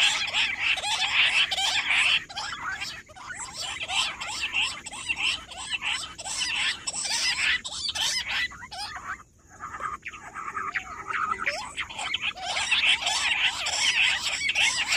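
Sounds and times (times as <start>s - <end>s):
quail chattering chirps: 0.0s - 14.9s.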